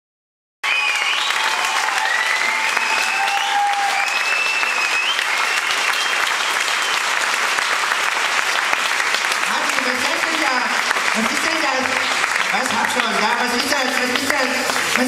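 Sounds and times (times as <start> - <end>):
audience applauding: 0.6 - 15.0.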